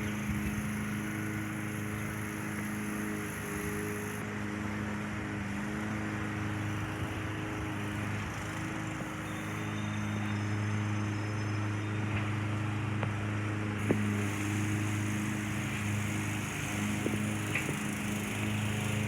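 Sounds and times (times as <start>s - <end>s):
large engine humming: 0.0s - 19.0s.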